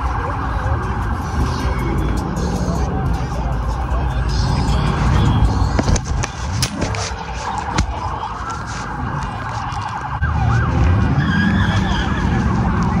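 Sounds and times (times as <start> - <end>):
sirens wailing: 0.0 - 13.0.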